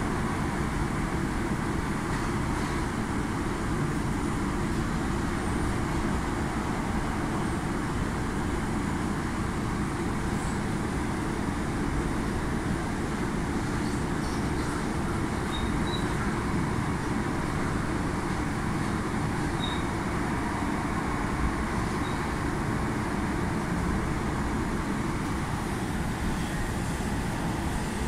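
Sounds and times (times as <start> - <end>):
train rumbling inside carriage: 0.0 - 28.0.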